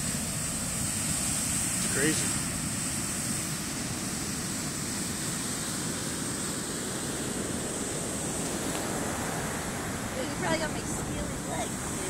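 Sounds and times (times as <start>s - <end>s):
ocean surf washing onto beach: 0.0s - 12.0s
wind rumbling on microphone: 0.0s - 12.0s.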